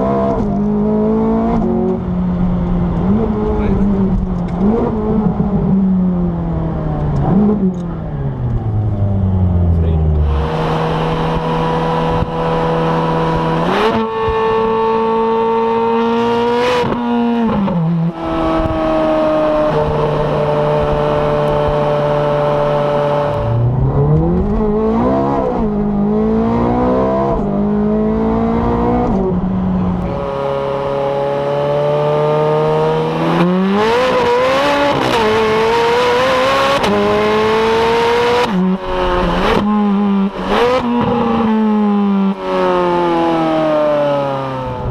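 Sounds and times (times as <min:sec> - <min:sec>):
sports car engine revving: 0:00.0 - 0:44.9.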